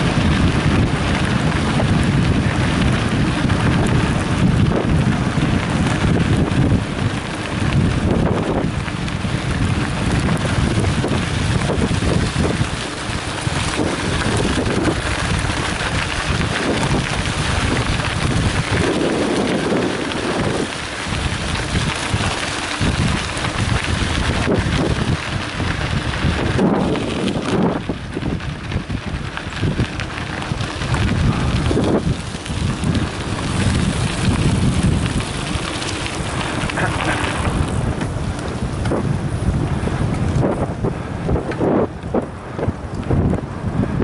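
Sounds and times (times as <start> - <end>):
bike tyres crunching on gravel: 0.0 - 44.0
wind buffeting microphone: 0.0 - 44.0.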